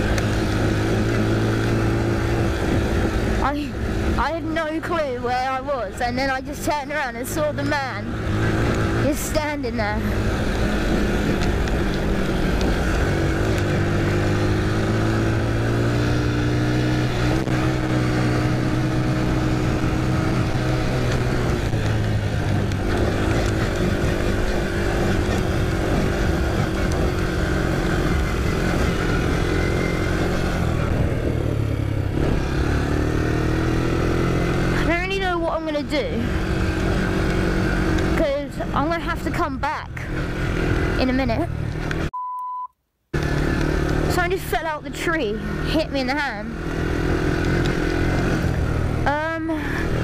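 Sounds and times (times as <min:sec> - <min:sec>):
quad bike engine running: 0:00.0 - 0:42.1, 0:43.2 - 0:50.0.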